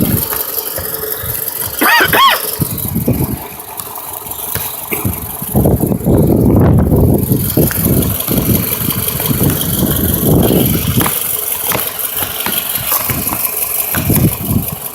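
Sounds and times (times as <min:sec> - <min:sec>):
car engine misfiring: 0:00.0 - 0:14.9.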